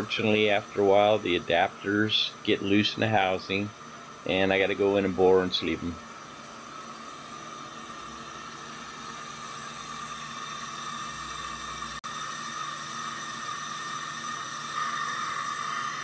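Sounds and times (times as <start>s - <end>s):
metal lathe boring: 0.0s - 16.0s.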